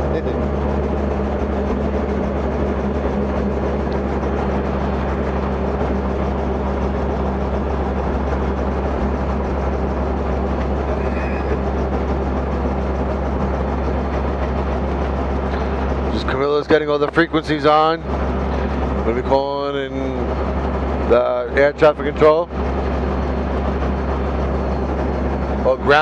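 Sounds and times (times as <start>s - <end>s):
helicopter engine and rotor drone: 0.0s - 26.0s
low steady hum: 0.0s - 26.0s.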